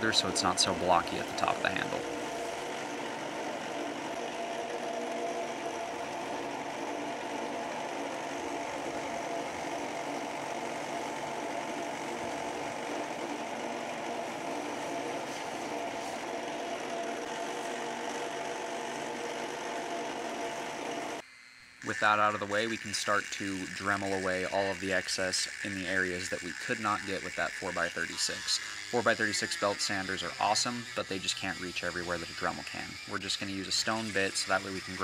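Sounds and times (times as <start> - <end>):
belt sander grinding resin: 0.0 - 35.0.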